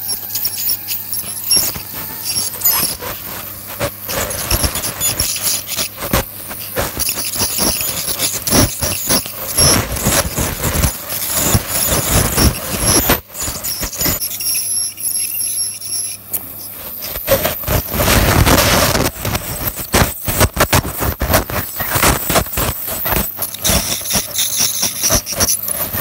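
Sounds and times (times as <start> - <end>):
dental scaler high-pitched whine: 0.0 - 26.0
scraping clicks on teeth: 0.1 - 14.2, 16.1 - 26.0.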